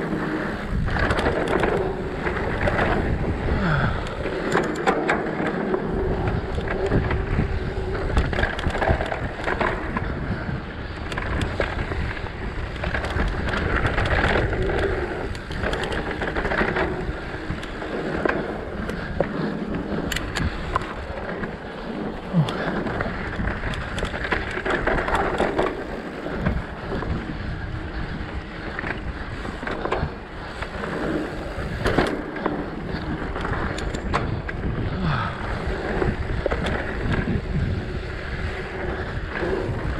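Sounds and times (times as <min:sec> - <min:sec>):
bike clattering over bumps: 0:00.0 - 0:39.9
wind buffeting microphone: 0:00.0 - 0:39.9.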